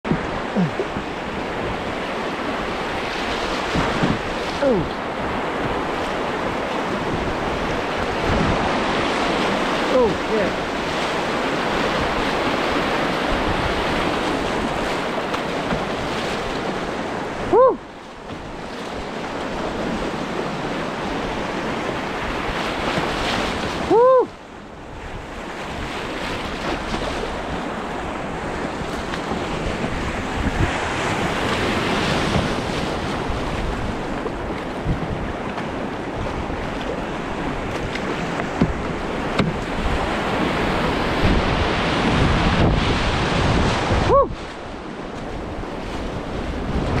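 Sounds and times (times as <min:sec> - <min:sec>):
rushing whitewater: 0:00.0 - 0:47.0
wind buffeting microphone: 0:00.0 - 0:47.0.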